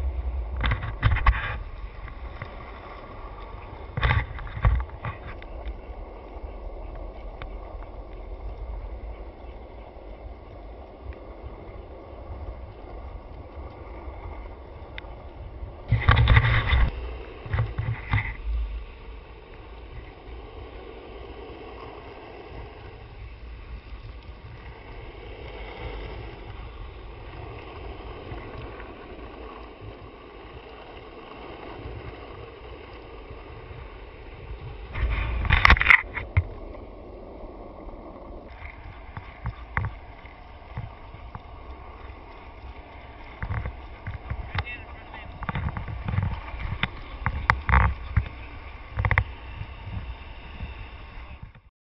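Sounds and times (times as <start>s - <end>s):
skateboard wheels rolling on asphalt: 0.0s - 51.7s.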